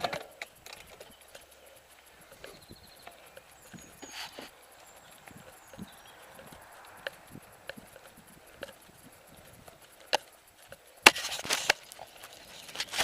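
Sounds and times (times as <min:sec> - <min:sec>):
dense crackling and rattling: 0:00.0 - 0:13.0.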